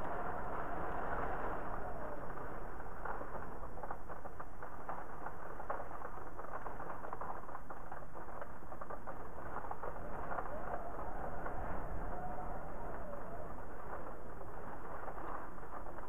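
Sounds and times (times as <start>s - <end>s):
patter of raindrops: 0.0s - 16.0s
steady rain: 0.0s - 16.0s
wind: 0.0s - 16.0s.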